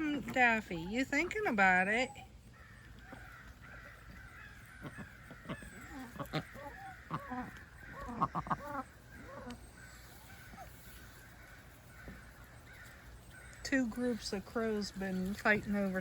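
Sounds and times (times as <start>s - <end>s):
waterfowl calling: 0.0s - 16.0s.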